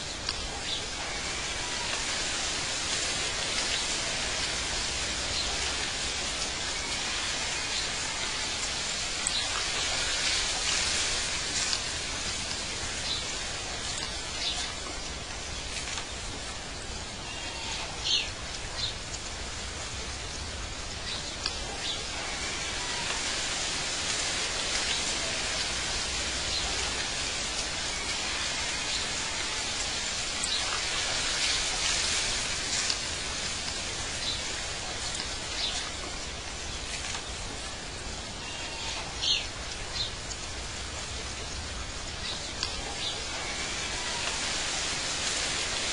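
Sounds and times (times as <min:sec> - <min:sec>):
even hiss: 0:00.0 - 0:45.9.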